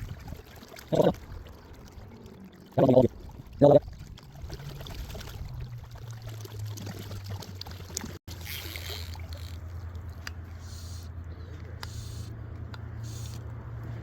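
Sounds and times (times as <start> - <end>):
water lapping and trickling: 0.0 - 14.0.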